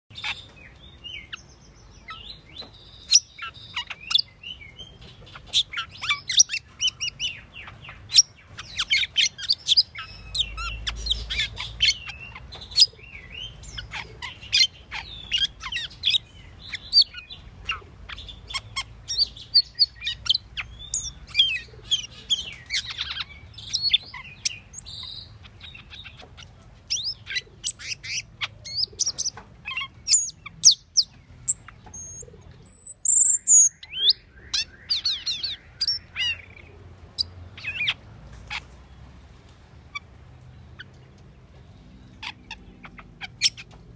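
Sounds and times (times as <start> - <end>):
starling singing: 0.1 - 38.7, 42.0 - 43.9.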